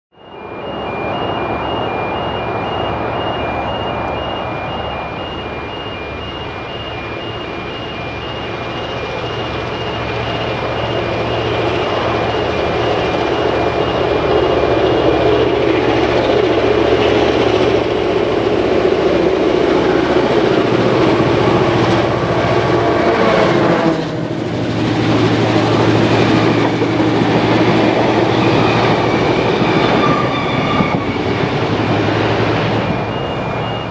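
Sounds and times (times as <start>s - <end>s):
locomotive engine drone: 0.2s - 33.9s.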